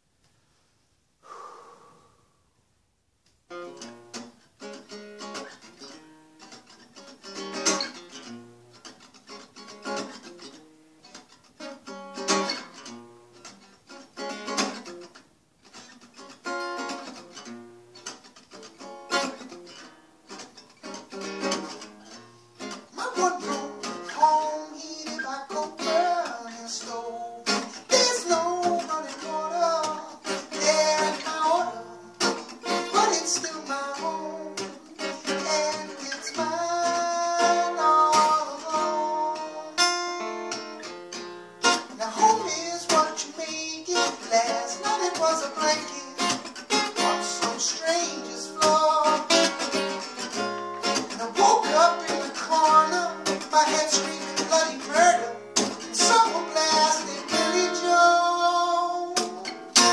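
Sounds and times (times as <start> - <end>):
acoustic guitar chords: 3.5 - 59.9.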